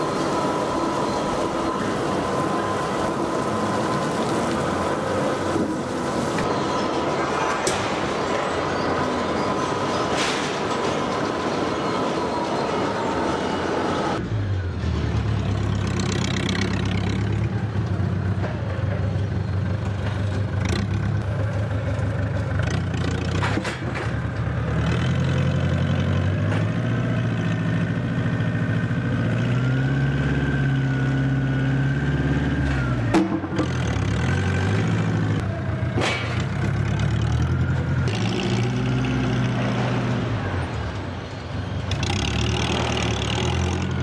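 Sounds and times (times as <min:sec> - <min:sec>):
forklift engine running: 0:00.0 - 0:44.0.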